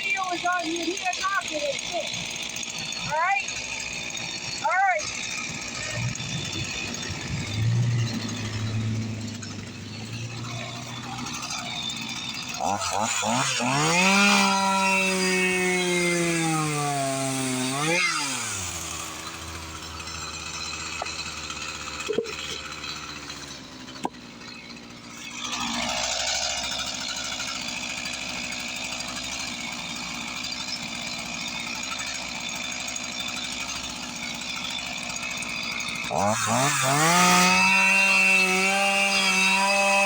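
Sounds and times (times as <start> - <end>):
chainsaw cutting: 0.0 - 40.0.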